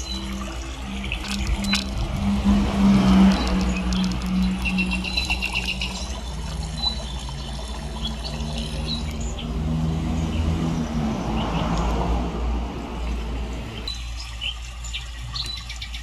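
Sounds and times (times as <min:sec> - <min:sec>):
birds chirping: 0:00.0 - 0:16.0
running water: 0:00.0 - 0:16.0.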